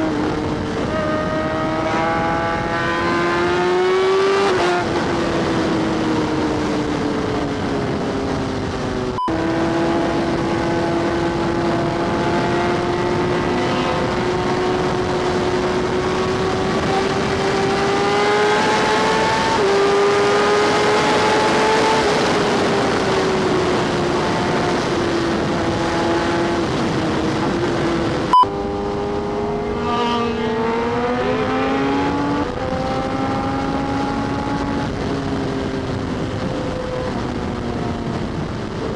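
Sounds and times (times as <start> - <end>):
motorbike engine cruising: 0.0 - 38.9
wind rushing: 0.0 - 38.9.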